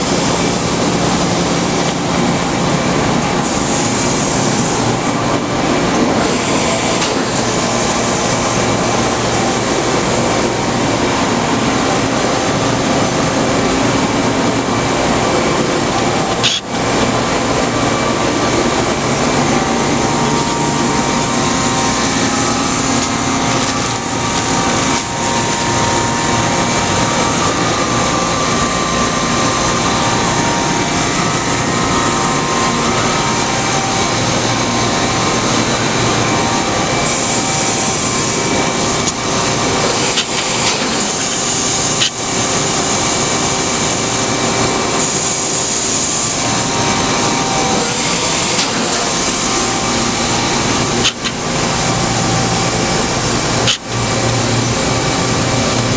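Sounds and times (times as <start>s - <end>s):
faint machine whine: 0.0s - 55.9s
machining center running: 0.0s - 55.9s.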